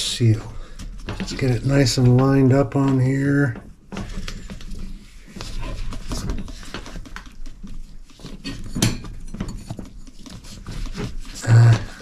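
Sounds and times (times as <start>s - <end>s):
strap rustling and scraping: 0.0s - 12.0s.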